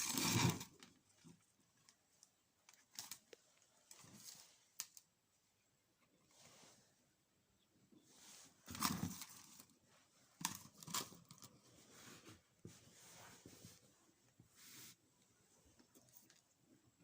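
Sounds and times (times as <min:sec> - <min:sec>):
faint rustling and handling: 0:00.0 - 0:17.0.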